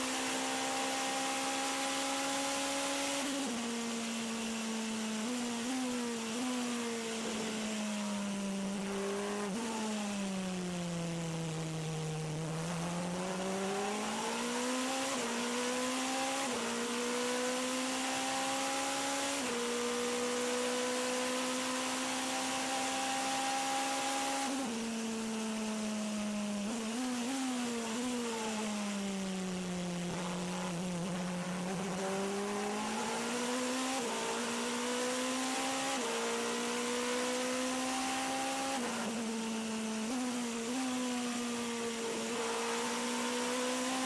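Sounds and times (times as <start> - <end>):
racing car engine: 0.0 - 44.0.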